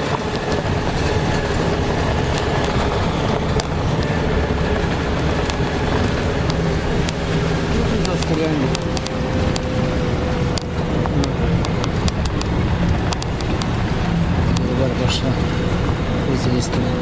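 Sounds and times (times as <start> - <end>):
car engine hum: 0.0 - 17.0
tyres on road: 0.0 - 17.0.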